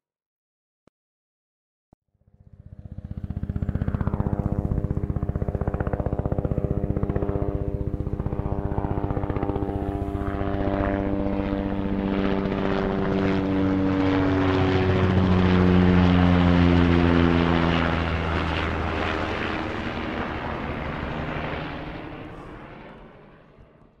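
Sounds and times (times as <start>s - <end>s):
low-flying aircraft passing: 2.2s - 24.0s.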